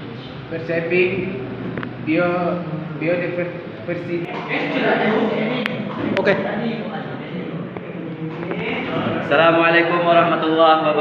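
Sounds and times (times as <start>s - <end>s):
indistinct voices: 0.0s - 11.0s.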